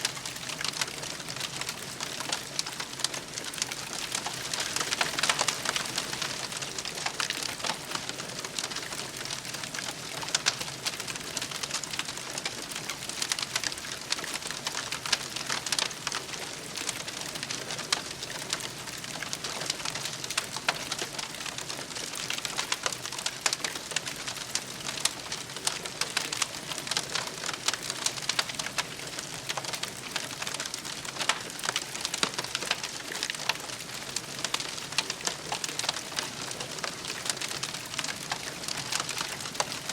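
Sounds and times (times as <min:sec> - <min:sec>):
wood campfire crackling and popping: 0:00.0 - 0:39.9.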